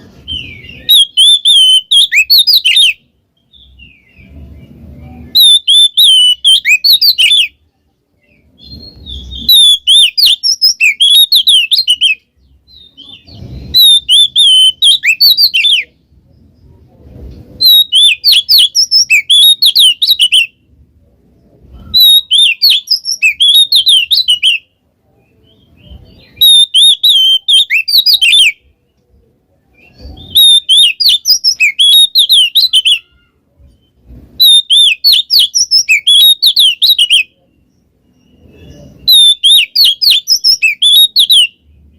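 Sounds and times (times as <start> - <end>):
bird singing whistled song: 0.2 - 7.6, 8.2 - 16.0, 17.6 - 20.6, 21.7 - 28.7, 29.7 - 41.6.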